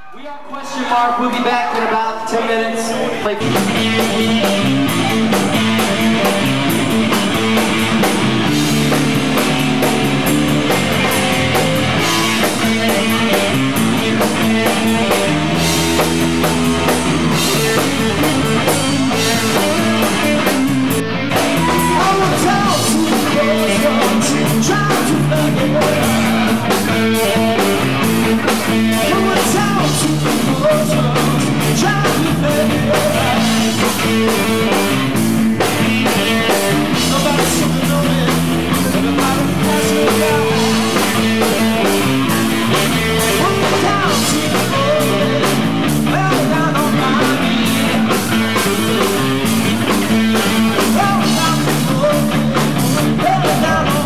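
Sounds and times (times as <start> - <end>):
live rock band playing: 3.3 - 54.0.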